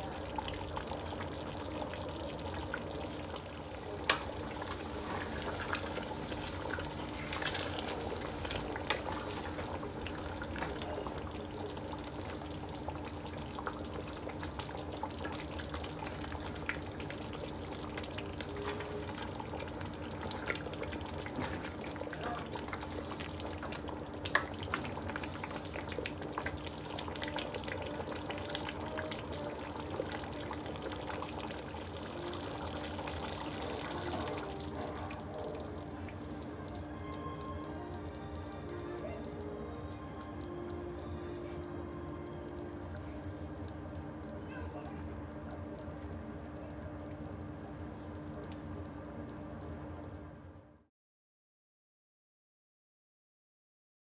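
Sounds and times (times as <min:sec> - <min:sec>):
stew frying in a pot: 0:00.0 - 0:50.8.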